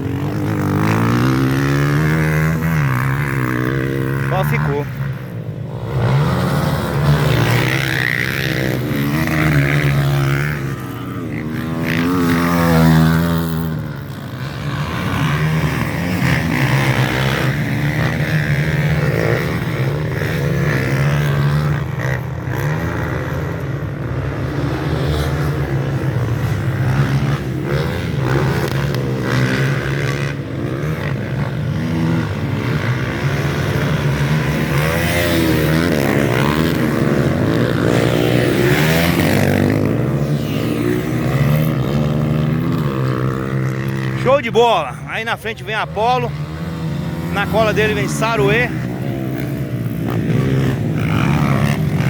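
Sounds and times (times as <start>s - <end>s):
motocross bike engines revving: 0.0s - 52.0s.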